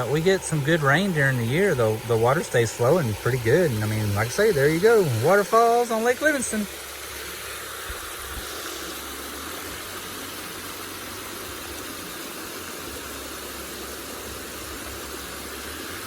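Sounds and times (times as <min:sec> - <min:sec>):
boat motor idling: 0:00.0 - 0:16.0
waterfall rushing over rock: 0:00.0 - 0:16.0.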